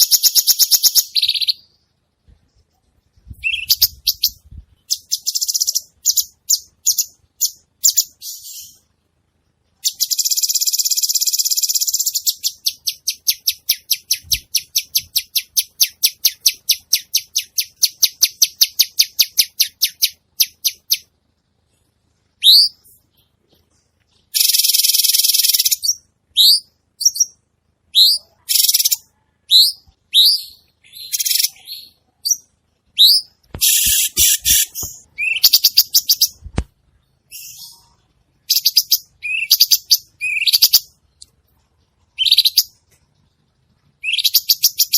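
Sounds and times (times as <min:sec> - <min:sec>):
bulbul singing: 0:00.0 - 0:02.0, 0:03.2 - 0:08.9, 0:09.8 - 0:21.1, 0:22.3 - 0:43.0, 0:44.0 - 0:44.9.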